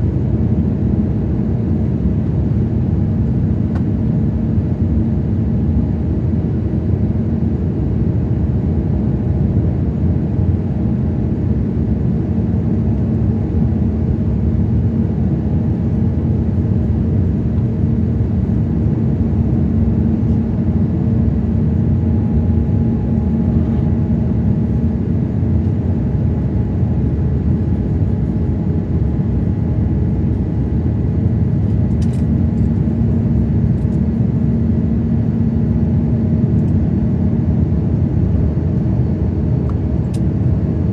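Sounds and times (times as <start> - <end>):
jet engines running: 6.0 - 40.9.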